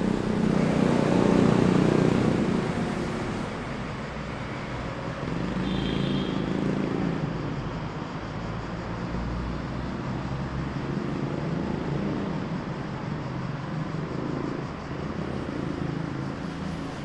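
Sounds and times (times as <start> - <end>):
car engines passing: 0.0 - 17.0.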